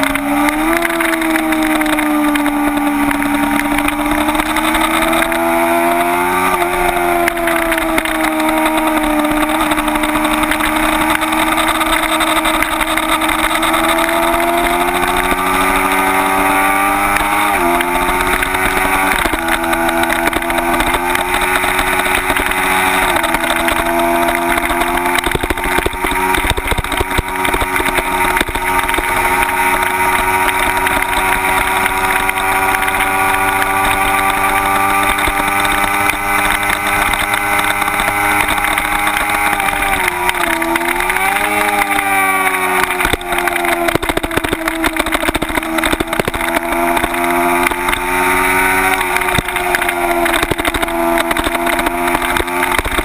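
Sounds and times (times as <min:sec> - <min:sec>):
motorcycle engine at high revs: 0:00.0 - 0:53.0
wind noise on microphone: 0:06.9 - 0:53.0.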